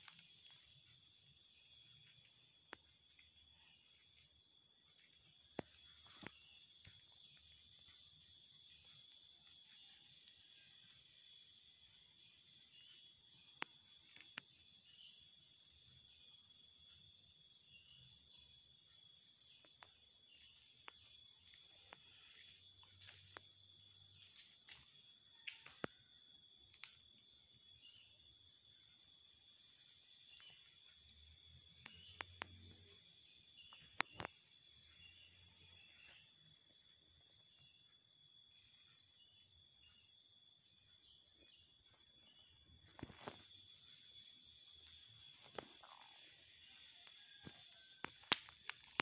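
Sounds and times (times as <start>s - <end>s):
night insects chirring: 0.0s - 49.0s.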